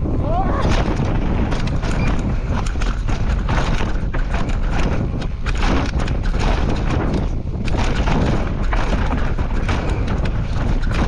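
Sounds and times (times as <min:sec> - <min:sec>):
bike clattering and rattling: 0:00.0 - 0:11.0
steady low rumble: 0:00.0 - 0:11.0.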